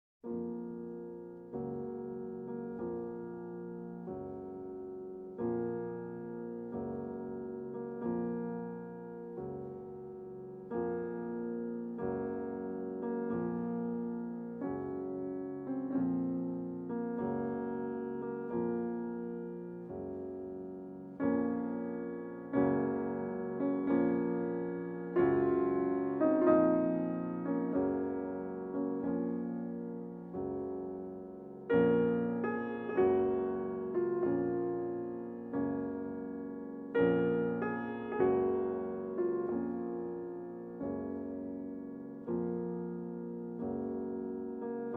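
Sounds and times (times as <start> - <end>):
gentle piano chords: 0.2 - 44.9.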